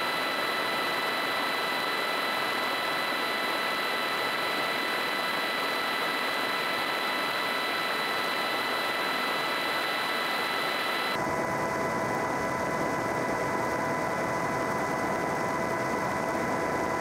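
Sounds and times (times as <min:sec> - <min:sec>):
aircraft engine and propeller: 0:00.0 - 0:17.0.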